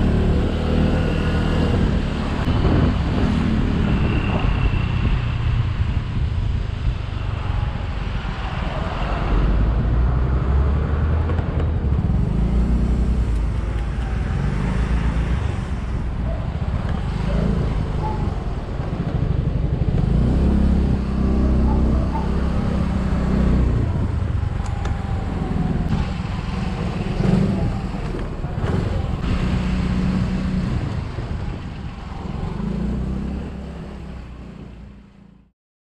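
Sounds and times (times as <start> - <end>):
road noise: 0.0 - 35.5.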